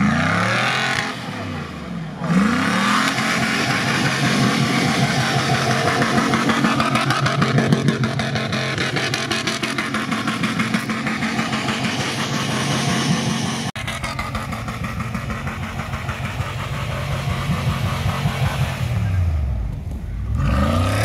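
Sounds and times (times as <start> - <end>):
engine revving hard: 0.0 - 19.5, 20.3 - 21.0
wheels spinning on snow: 2.4 - 21.0.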